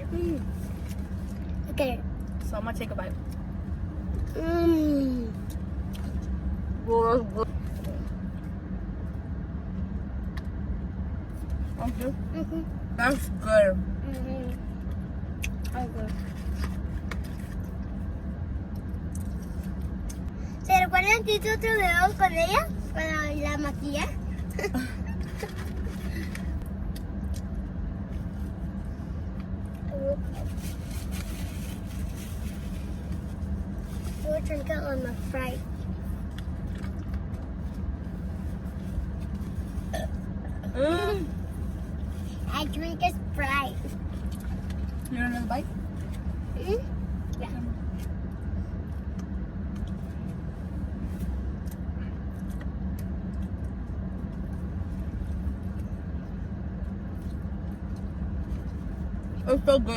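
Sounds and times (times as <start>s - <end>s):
air conditioning: 0.0s - 59.9s
car idling hum: 0.0s - 59.9s.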